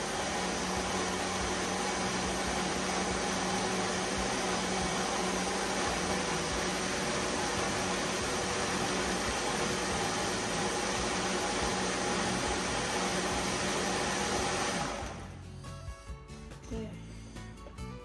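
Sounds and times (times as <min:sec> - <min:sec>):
blender running: 0:00.0 - 0:15.4.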